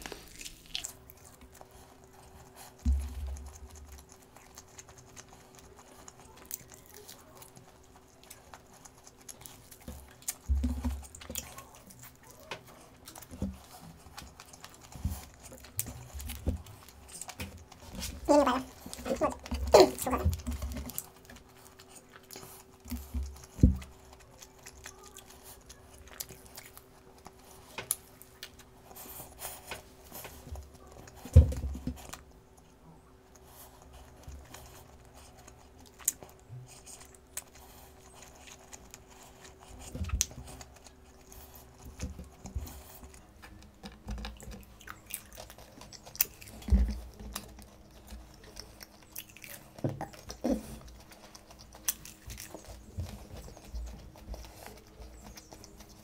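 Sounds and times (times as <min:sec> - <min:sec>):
person chewing crispy food: 0:00.0 - 0:56.0.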